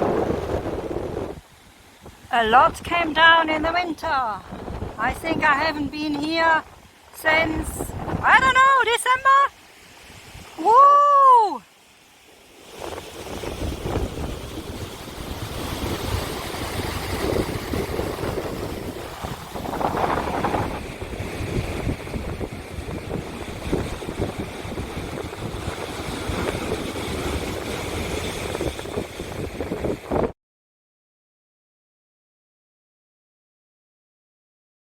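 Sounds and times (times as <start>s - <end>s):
gusty wind buffeting microphone: 0.0s - 10.7s, 12.2s - 30.4s
waves breaking on shore: 0.0s - 30.4s.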